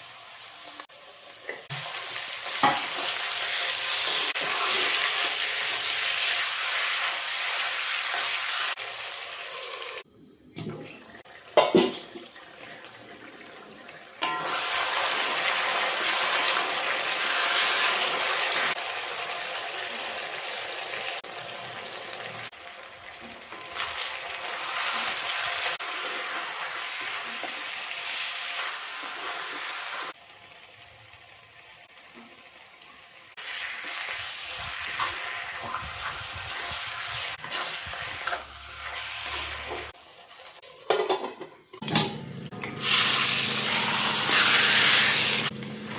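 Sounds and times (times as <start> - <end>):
curry sizzling in a pan: 0.0 - 10.1, 11.2 - 41.1, 42.7 - 45.6.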